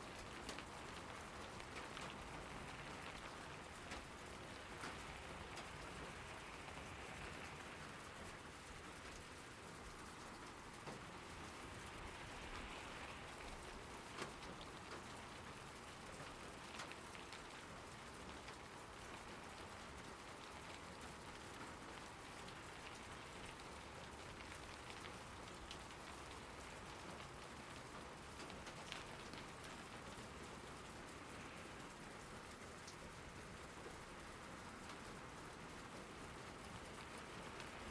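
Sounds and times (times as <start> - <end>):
steady rain falling: 0.0 - 37.9
raindrops ticking: 0.2 - 37.9.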